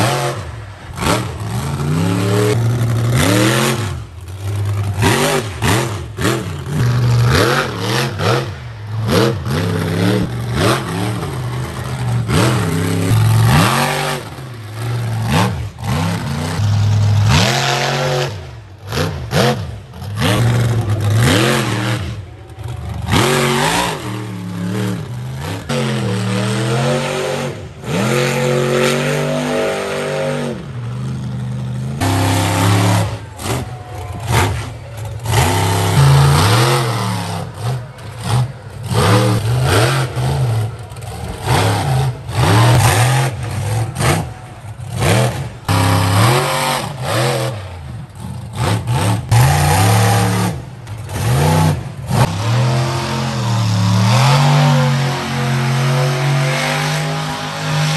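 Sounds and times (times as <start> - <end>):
truck engines revving hard: 0.0 - 57.9.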